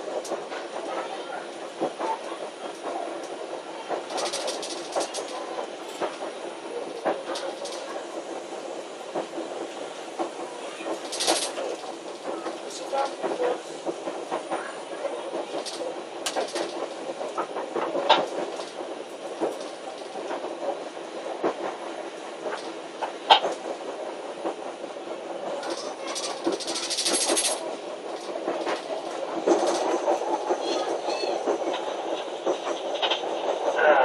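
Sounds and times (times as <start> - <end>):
train running noise: 0.0 - 34.0.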